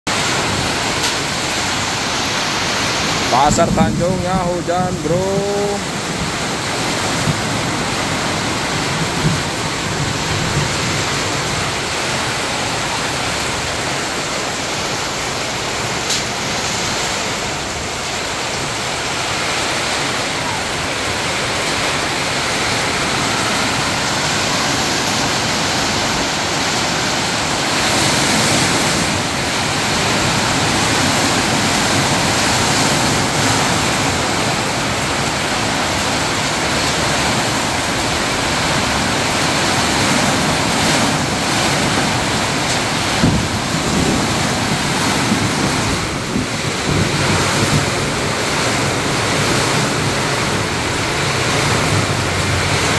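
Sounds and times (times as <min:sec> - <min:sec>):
heavy rain pouring: 0:00.1 - 0:52.9.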